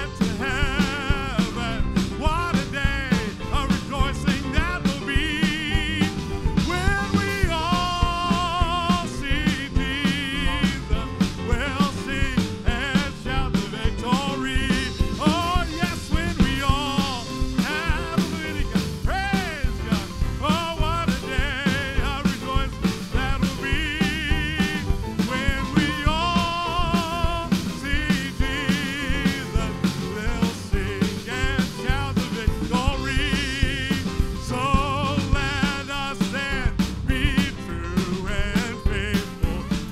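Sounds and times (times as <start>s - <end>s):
drum beat: 0.0s - 39.9s.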